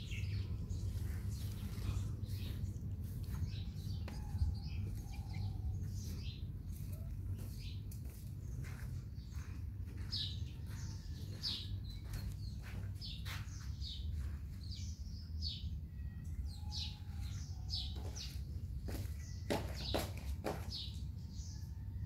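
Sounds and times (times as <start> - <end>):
steady low rumble: 0.0 - 19.5
small birds chirping: 0.0 - 21.8.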